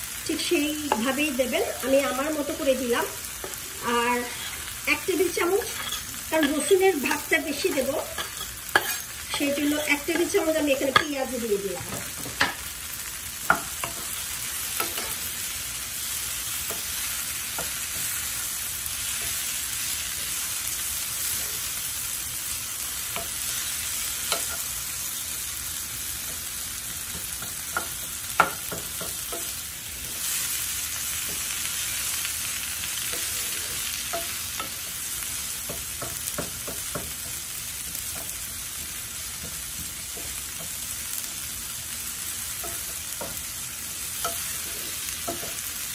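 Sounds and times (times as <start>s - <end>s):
vegetables sizzling in oil: 0.0s - 45.9s.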